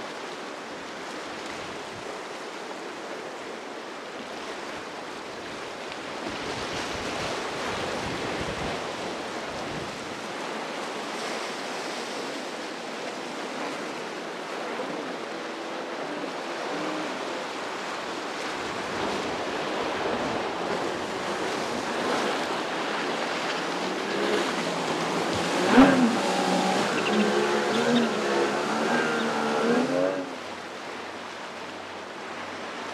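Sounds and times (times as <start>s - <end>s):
ocean surf breaking: 5.4s - 32.9s.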